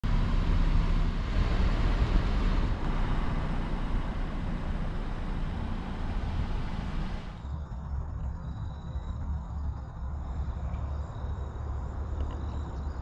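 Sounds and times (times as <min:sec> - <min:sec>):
low fluctuating rumble: 0:00.0 - 0:13.0.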